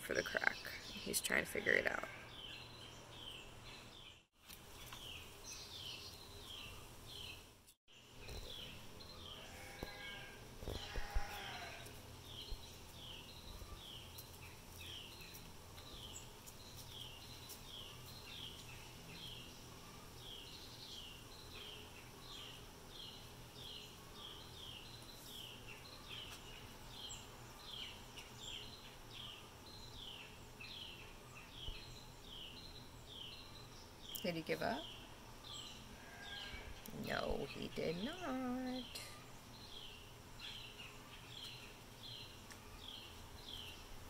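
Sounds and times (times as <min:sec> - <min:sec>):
faint outdoor background: 0:00.0 - 0:44.0
small bird chirping: 0:00.1 - 0:44.0.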